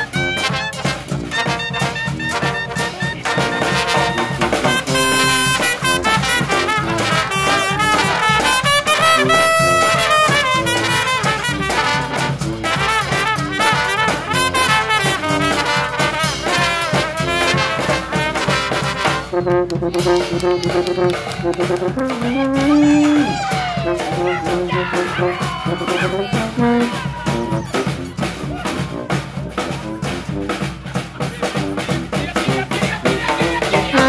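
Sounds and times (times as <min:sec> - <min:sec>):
street brass band playing: 0:00.0 - 0:34.0.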